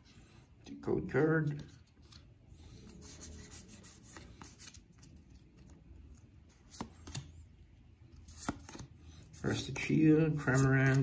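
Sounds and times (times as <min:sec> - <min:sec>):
cards rustling and flicking: 0:01.4 - 0:09.8, 0:10.4 - 0:11.0.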